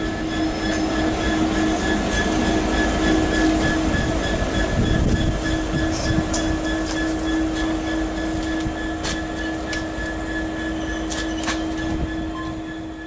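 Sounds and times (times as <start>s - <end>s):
diesel locomotive droning: 0.0s - 13.0s.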